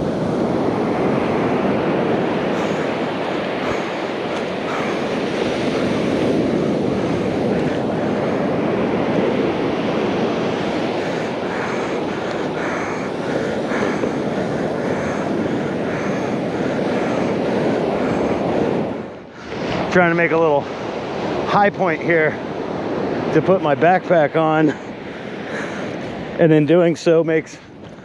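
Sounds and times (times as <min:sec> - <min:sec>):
surf breaking on beach: 0:00.0 - 0:27.8
wind buffeting microphone: 0:00.0 - 0:28.0.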